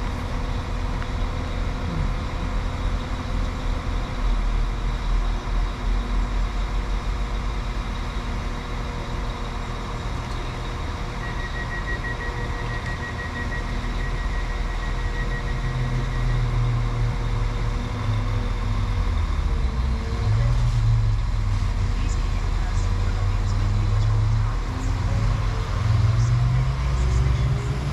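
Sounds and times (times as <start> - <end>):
diesel train engine rumbling: 0.0 - 27.9.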